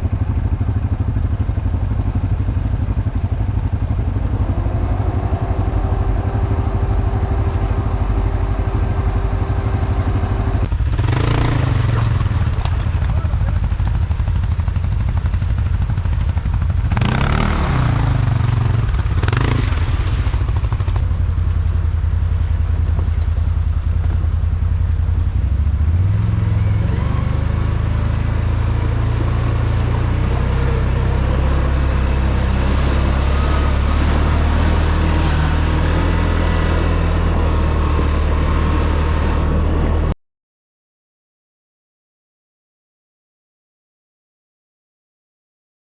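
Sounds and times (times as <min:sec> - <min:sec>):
atv engine revving: 0:00.0 - 0:40.2.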